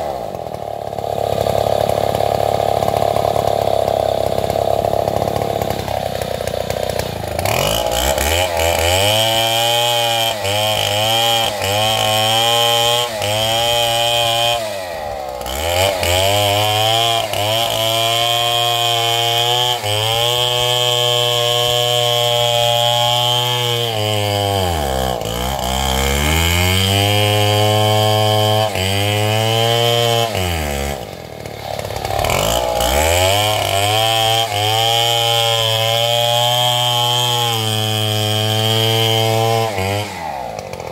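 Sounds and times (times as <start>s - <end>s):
chainsaw revving through a cut: 0.0s - 40.9s.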